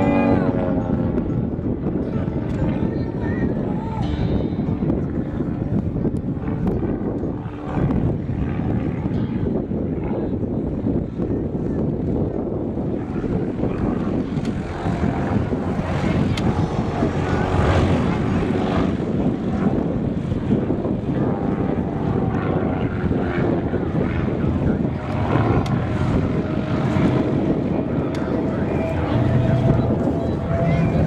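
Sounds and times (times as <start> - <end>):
propeller plane engine droning: 0.0 - 31.0
steady low rumble: 0.0 - 31.0.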